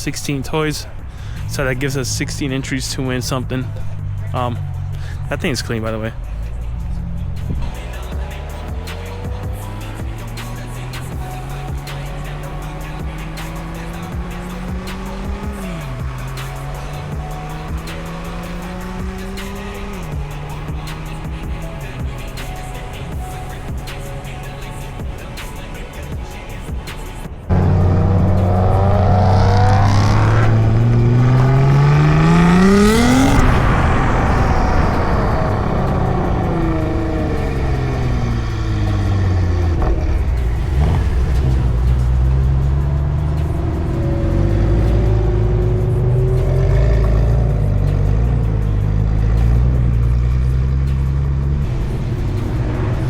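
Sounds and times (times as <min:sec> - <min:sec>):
bass-heavy music: 0:00.0 - 0:53.0
car engine revving: 0:00.0 - 0:53.0.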